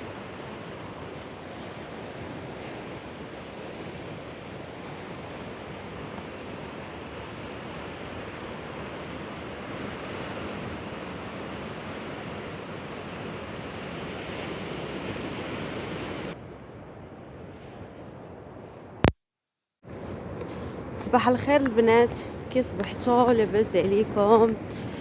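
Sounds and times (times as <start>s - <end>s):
sea waves breaking on shore: 0.0s - 19.0s, 19.9s - 25.0s.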